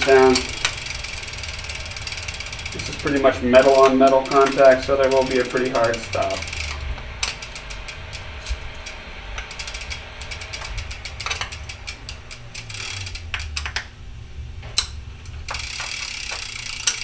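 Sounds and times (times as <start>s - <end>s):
ratchet tool clicking: 0.0s - 13.9s, 14.8s - 17.0s.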